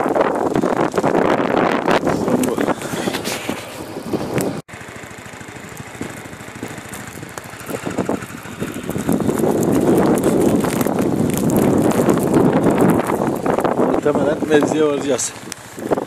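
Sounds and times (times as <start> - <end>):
wind rushing over microphone: 0.0 - 4.7, 6.0 - 16.0
motorcycle engine running: 0.0 - 16.0.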